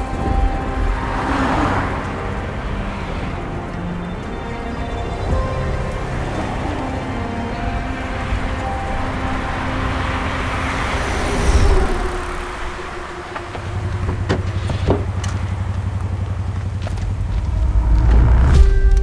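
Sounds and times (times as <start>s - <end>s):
vehicle rumbling: 0.0s - 18.8s.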